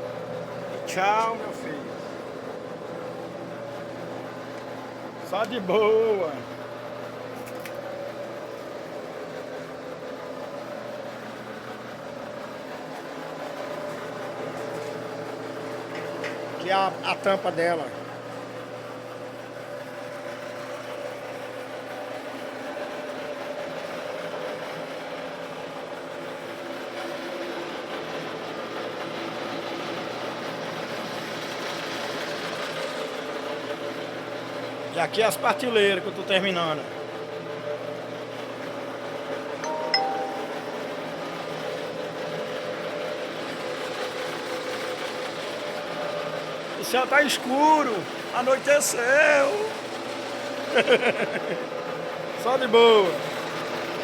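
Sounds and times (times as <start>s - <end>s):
mechanical hum with held tones: 0.0s - 44.0s, 44.9s - 54.0s.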